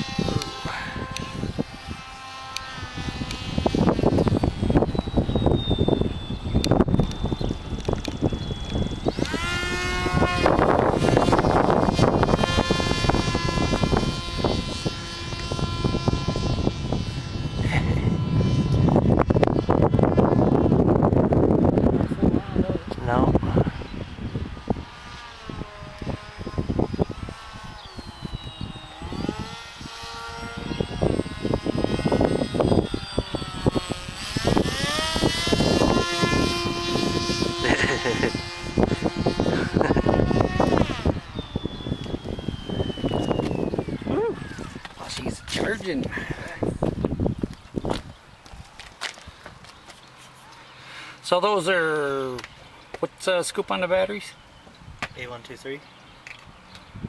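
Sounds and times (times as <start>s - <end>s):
wind rumble on microphone: 0.0s - 50.2s, 51.6s - 57.0s
model airplane motor whining: 0.0s - 57.0s.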